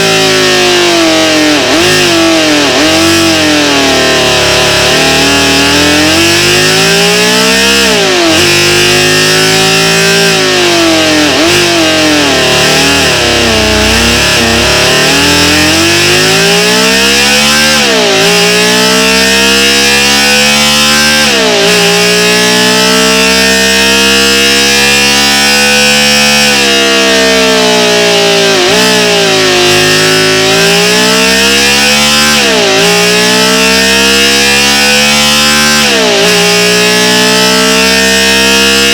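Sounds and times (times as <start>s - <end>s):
synthesized engine revving: 0.0s - 38.9s.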